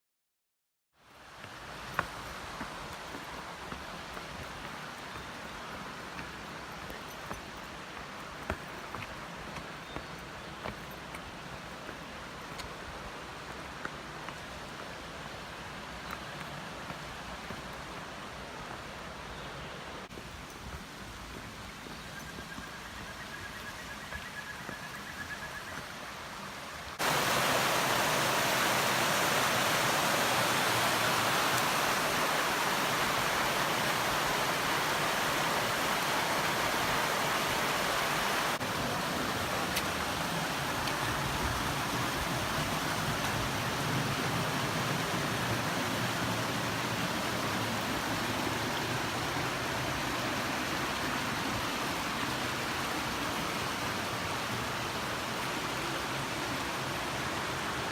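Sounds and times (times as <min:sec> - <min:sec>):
waterfall rushing: 0:01.1 - 0:57.9.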